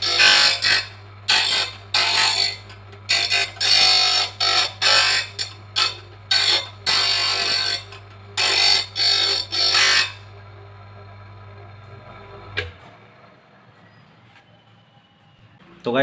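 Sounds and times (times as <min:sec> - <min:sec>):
machine motor humming: 0:00.0 - 0:13.9.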